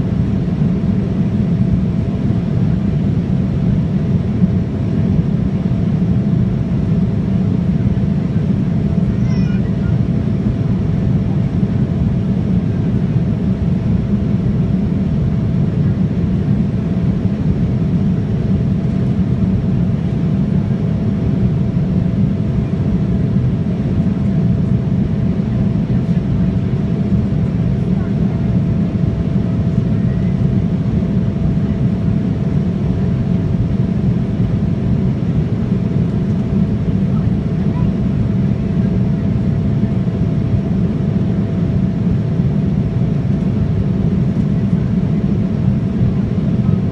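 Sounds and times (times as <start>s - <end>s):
aircraft engine rumble: 0.0s - 46.9s.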